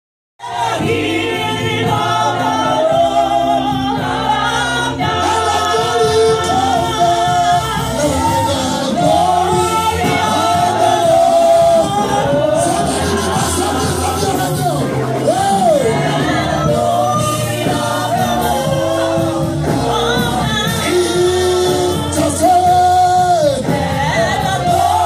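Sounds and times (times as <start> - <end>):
group of voices singing: 0.4 - 25.0.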